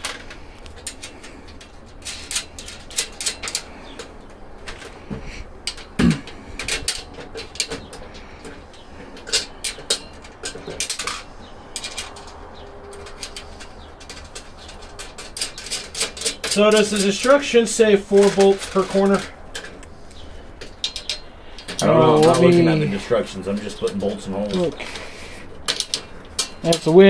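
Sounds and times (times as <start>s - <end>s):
metal bolts clicking and clinking: 0.0s - 27.0s.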